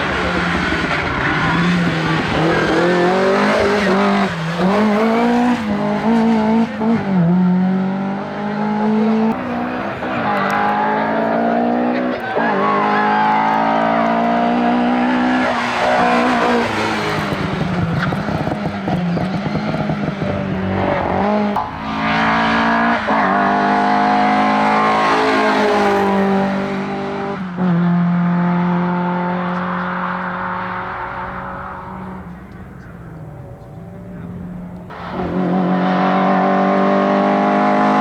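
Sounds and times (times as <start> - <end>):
car engine at full throttle: 0.0 - 38.0.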